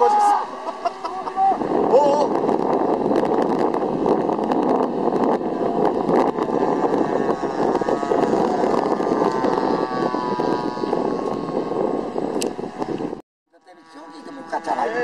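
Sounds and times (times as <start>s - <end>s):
model airplane engines buzzing: 0.0s - 15.0s
wind buffeting microphone: 0.0s - 15.0s.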